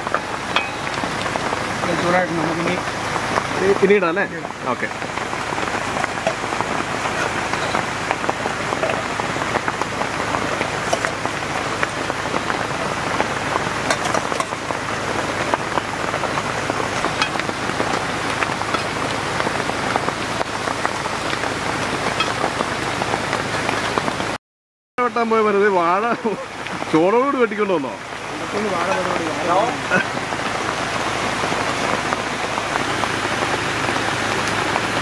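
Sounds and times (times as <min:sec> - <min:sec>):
heavy rain falling: 0:00.0 - 0:24.4, 0:25.0 - 0:35.0.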